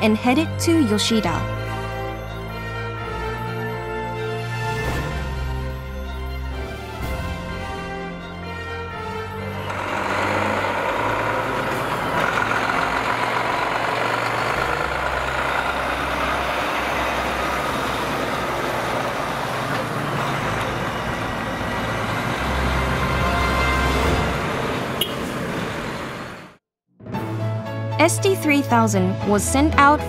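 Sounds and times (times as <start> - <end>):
truck diesel engine running: 0.0 - 26.6.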